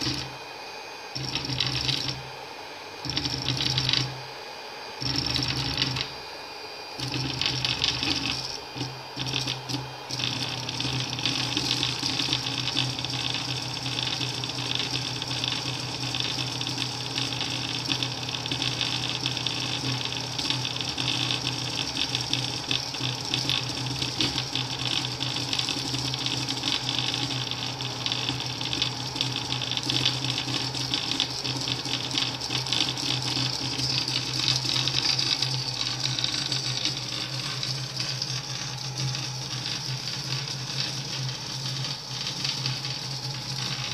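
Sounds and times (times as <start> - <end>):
printer stepper motors chattering: 0.0 - 0.4, 1.2 - 2.2, 3.0 - 4.2, 5.0 - 6.2, 7.0 - 43.9.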